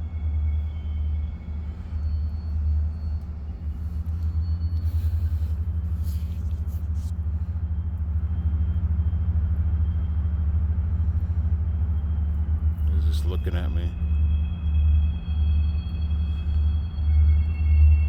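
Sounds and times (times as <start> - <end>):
deep throbbing rumble: 0.0 - 18.0.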